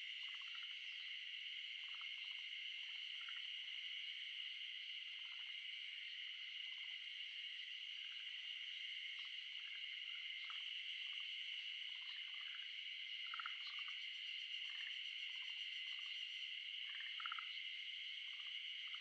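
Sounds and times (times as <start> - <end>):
high insect chorus droning: 0.0 - 19.0.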